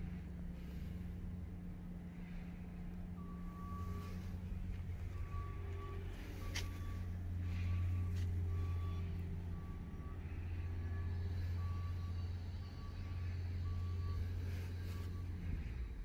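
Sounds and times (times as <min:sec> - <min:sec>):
heavy vehicle engine rumble: 0:00.0 - 0:16.0
reversing alarm beeping: 0:03.0 - 0:16.0.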